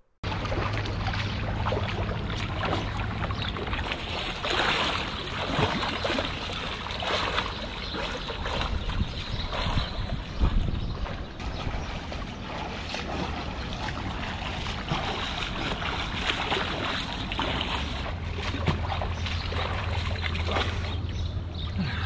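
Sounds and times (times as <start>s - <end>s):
water splashing from swimming: 0.2s - 22.0s.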